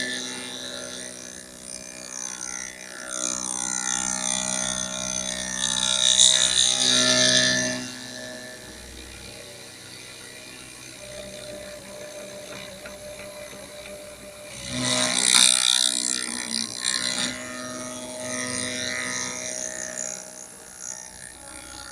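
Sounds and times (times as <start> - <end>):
machine humming: 0.0 - 21.9.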